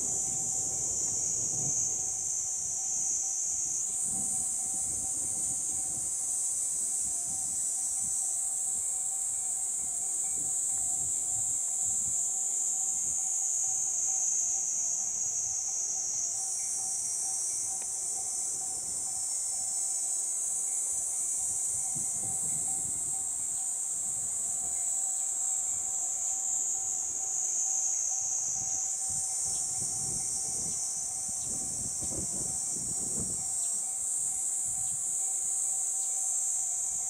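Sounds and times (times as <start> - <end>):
cicadas buzzing: 0.0 - 37.0
faint steady tone: 0.0 - 37.0.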